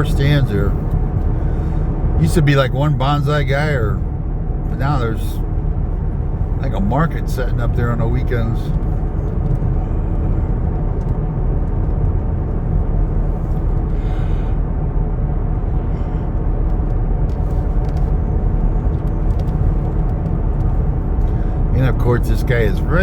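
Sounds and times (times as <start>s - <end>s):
road and engine rumble in car: 0.0s - 23.0s.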